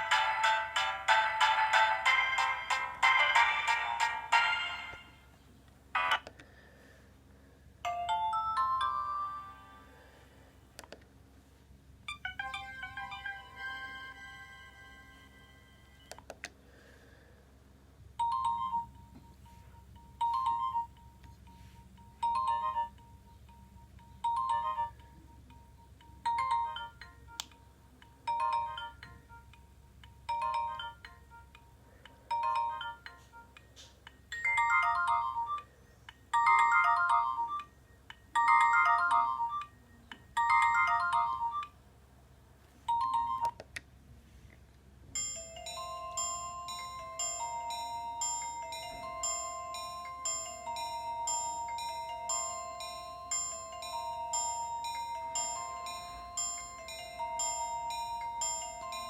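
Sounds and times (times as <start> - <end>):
mobile phone ringtone: 0.0 - 5.3, 6.0 - 6.3, 7.9 - 10.2, 12.1 - 16.1, 18.2 - 33.6, 34.3 - 41.8, 42.9 - 43.6, 45.2 - 59.0.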